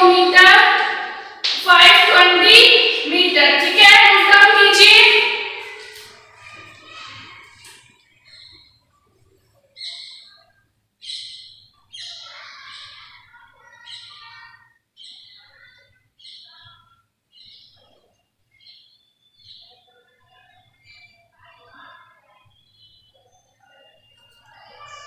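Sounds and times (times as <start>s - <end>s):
birds chirping faintly: 0.0s - 25.0s.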